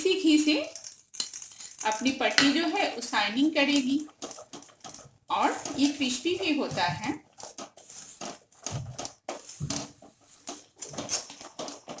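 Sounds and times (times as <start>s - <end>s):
thick syrup bubbling: 1.8s - 12.0s.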